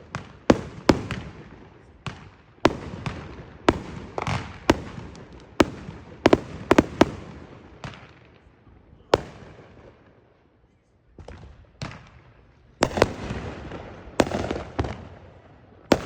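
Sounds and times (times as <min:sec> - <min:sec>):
fireworks exploding: 0:00.0 - 0:08.5, 0:09.1 - 0:10.1, 0:11.2 - 0:16.0.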